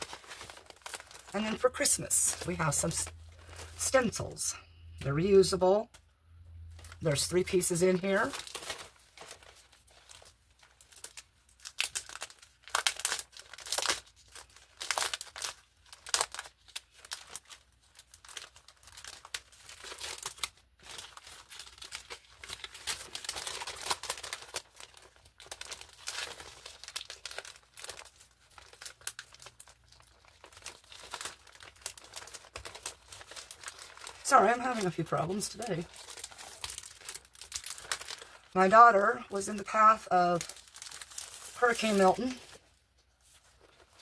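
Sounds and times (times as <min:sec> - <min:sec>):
plastic packaging crinkling: 0:00.0 - 0:04.4, 0:06.6 - 0:44.0.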